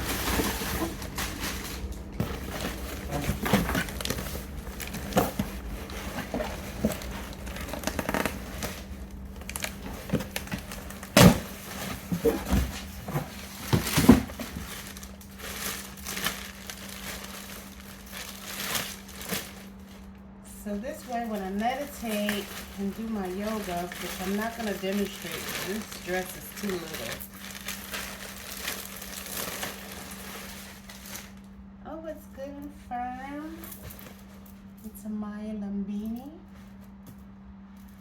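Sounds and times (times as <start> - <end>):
packaging crinkling and rustling: 0.0 - 20.1, 20.9 - 31.5.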